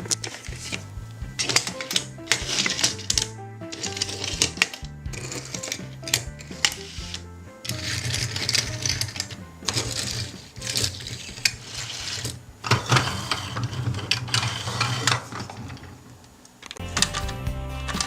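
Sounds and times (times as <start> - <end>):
small hard objects rattling: 0.0 - 16.0
steady low hum: 0.0 - 17.0.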